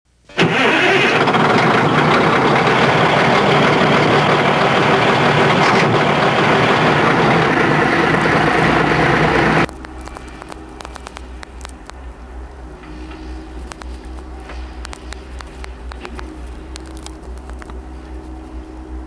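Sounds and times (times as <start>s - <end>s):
diesel excavator engine running: 0.2s - 19.0s.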